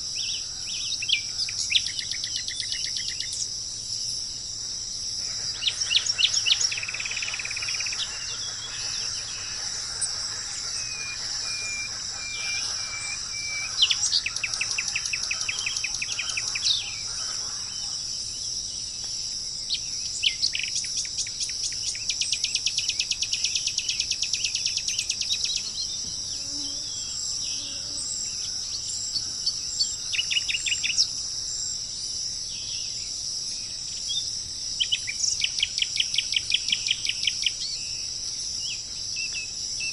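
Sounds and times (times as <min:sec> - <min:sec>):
birds singing in trills: 0:00.0 - 0:04.4, 0:05.2 - 0:31.8, 0:32.4 - 0:39.9
high-pitched insect chorus: 0:00.0 - 0:39.9.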